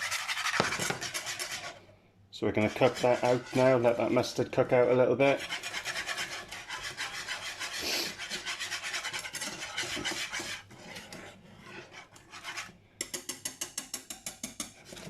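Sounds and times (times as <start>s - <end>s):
whisk scraping a pan: 0.0s - 15.0s.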